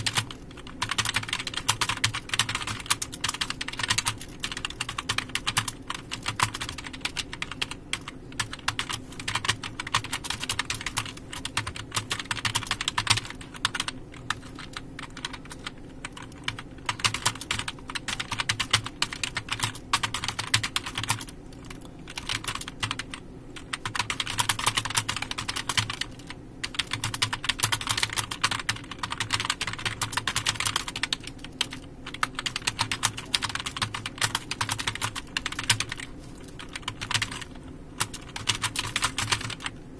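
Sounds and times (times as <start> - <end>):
keyboard typing clicks: 0.0 - 39.8
faint low hum: 0.0 - 39.9.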